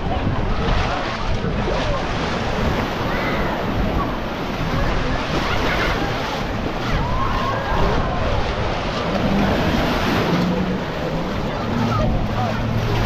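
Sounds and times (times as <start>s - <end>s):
surf washing onto sand: 0.0s - 13.0s
wind rumbling on microphone: 0.0s - 13.0s.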